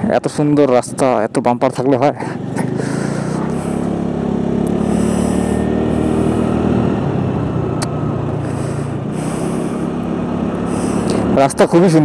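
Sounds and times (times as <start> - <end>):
scooter engine running: 1.9 - 12.0.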